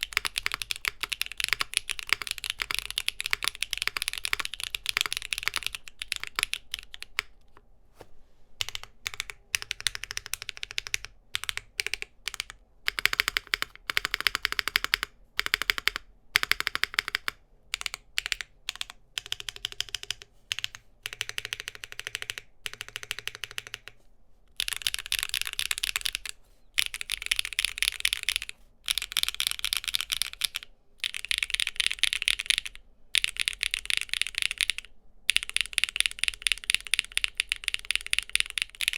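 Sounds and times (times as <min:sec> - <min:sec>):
mechanical keyboard typing: 0:00.0 - 0:07.6, 0:08.6 - 0:38.9.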